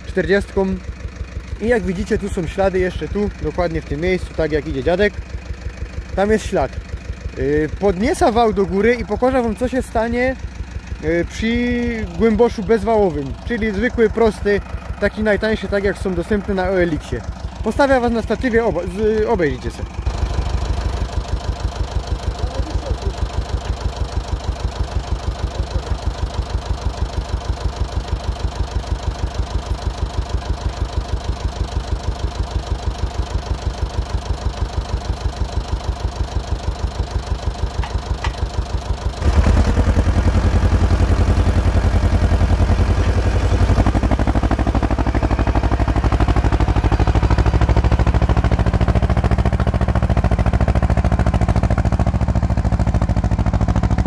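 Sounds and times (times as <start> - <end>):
diesel tractor engine: 0.0 - 54.0.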